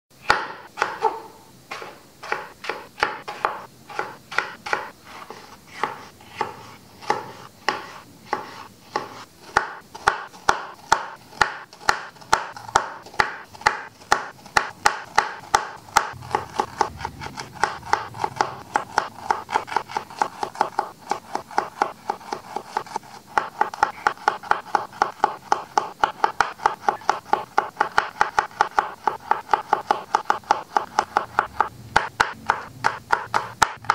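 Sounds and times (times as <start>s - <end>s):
knife chopping on wooden board: 0.2s - 33.9s.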